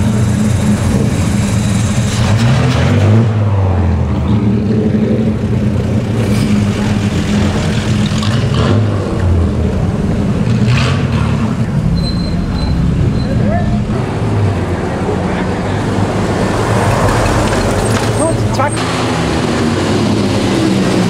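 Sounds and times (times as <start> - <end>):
car engines running at low revs: 0.0 - 21.0.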